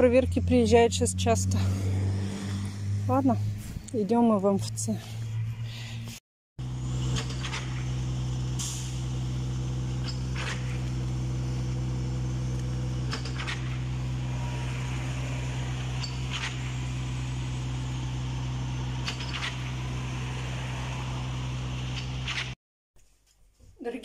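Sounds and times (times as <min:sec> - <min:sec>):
diesel engine droning: 0:00.0 - 0:22.6.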